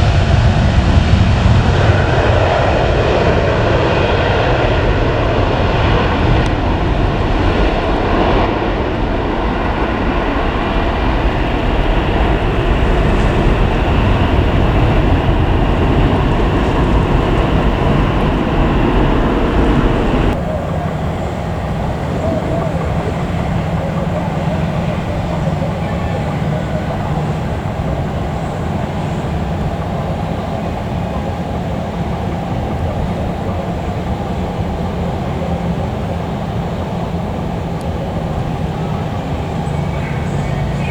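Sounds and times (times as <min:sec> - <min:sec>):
jet engines running loud: 0:00.0 - 0:40.9.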